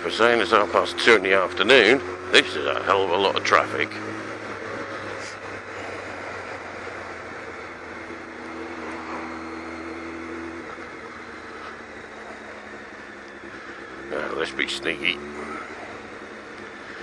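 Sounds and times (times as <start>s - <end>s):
motorcycle engine cruising: 0.0s - 17.0s
wind and road noise: 0.0s - 17.0s.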